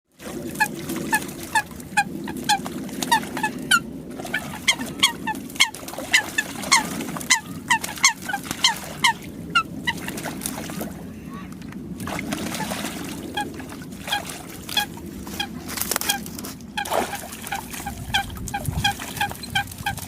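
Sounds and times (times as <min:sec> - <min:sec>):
steady low hum: 0:00.1 - 0:20.0
water hens honking calls: 0:00.2 - 0:20.0.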